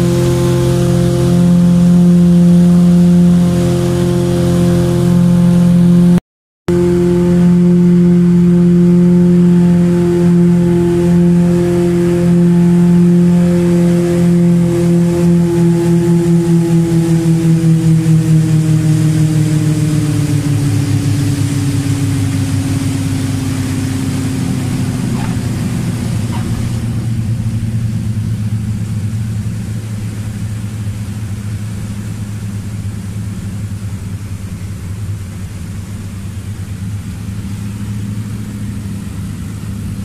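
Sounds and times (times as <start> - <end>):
propeller plane engine drone: 0.0 - 40.0.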